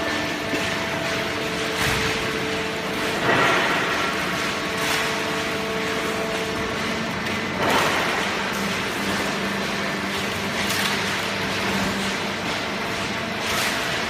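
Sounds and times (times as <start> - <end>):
baler machine hum: 0.0 - 14.0
machine clatter: 0.0 - 14.0.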